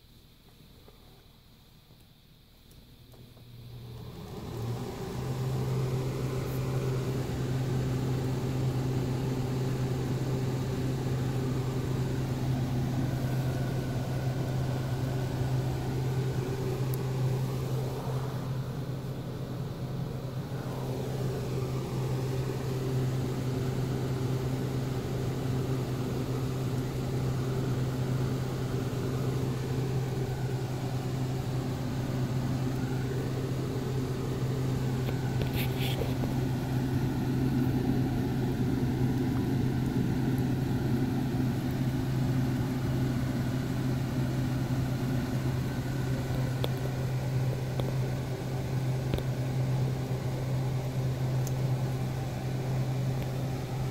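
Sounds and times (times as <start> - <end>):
electric motor hum: 3.5 - 53.9.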